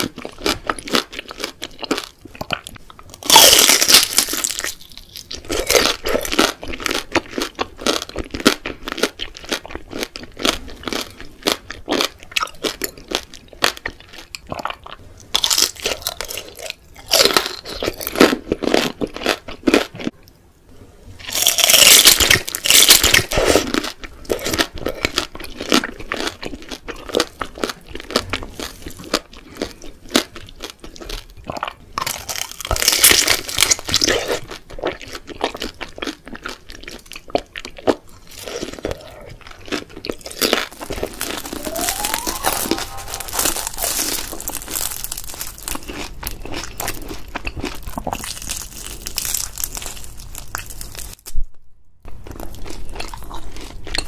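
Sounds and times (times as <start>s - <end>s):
crisp chewing: 0.0s - 20.1s, 21.2s - 51.4s
crunching fried food: 0.0s - 20.2s, 21.2s - 51.4s, 52.0s - 54.0s.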